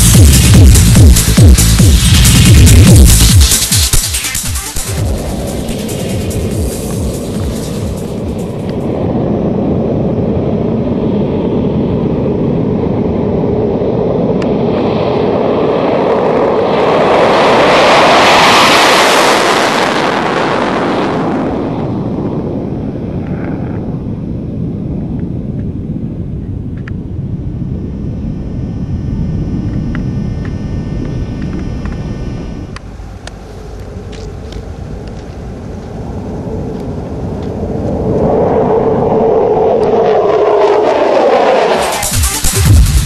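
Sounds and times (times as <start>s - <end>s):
fighter jet roaring past: 5.0s - 25.2s, 25.8s - 42.2s.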